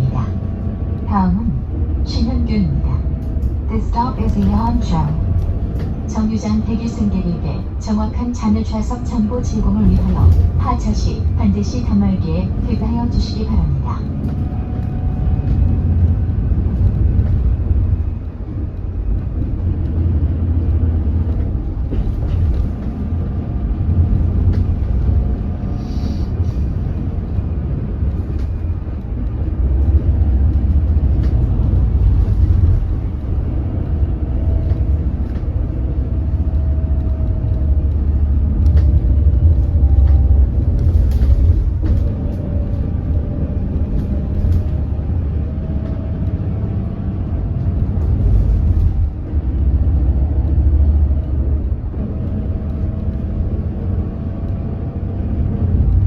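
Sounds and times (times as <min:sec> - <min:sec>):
road rumble: 0:00.0 - 0:56.0.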